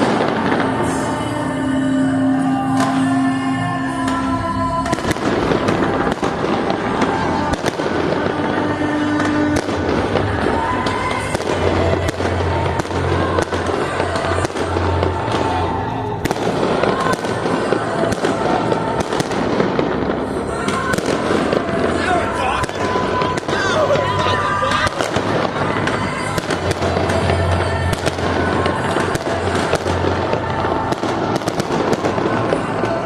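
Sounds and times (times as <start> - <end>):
fireworks bangs and crackles: 0.0 - 33.0
music playing: 0.0 - 33.0.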